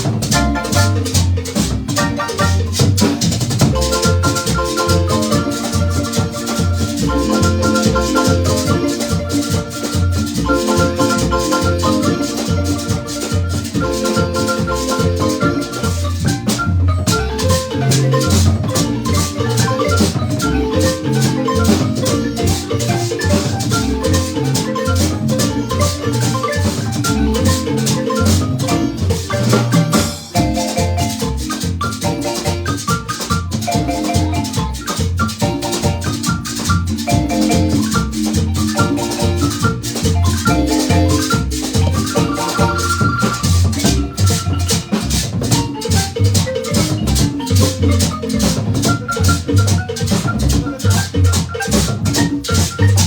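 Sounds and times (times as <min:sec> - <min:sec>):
marimba band playing: 0:00.0 - 0:53.0
percussion beat: 0:00.0 - 0:53.0.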